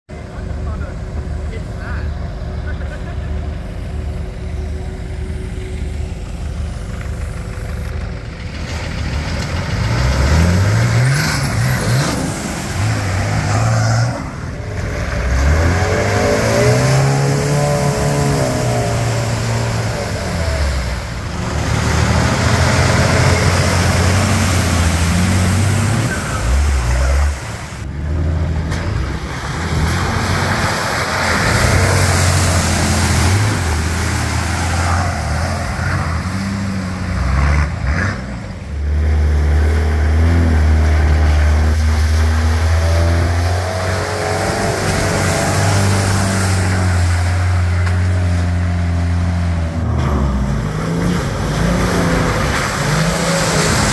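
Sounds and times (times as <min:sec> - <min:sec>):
off-road vehicle engines revving: 0:00.1 - 0:53.9
tyres churning mud and water: 0:00.1 - 0:53.9.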